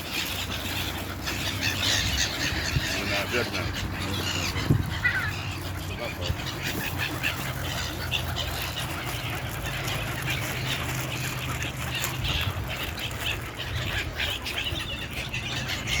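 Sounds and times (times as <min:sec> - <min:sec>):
seagulls squawking: 0:00.0 - 0:16.0.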